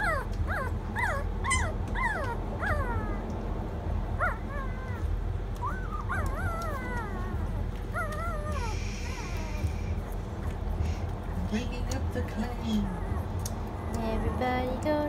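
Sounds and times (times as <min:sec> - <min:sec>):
puppy whining: 0:00.0 - 0:03.4, 0:04.1 - 0:11.4, 0:12.6 - 0:14.5.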